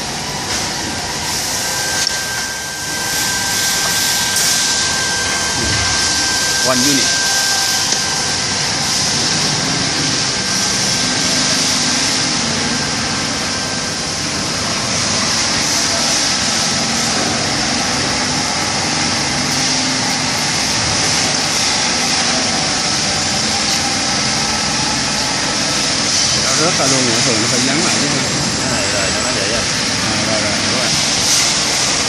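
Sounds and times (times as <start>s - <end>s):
machinery noise with high hiss: 0.0s - 32.0s.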